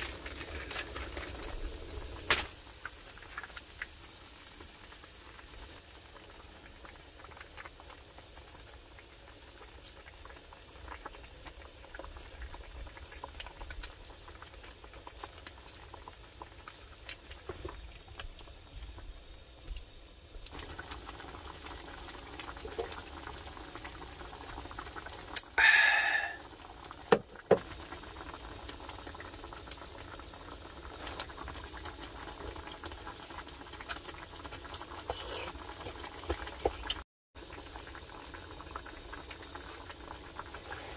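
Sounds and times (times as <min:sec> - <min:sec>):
sauce bubbling in a skillet: 0:00.0 - 0:40.9.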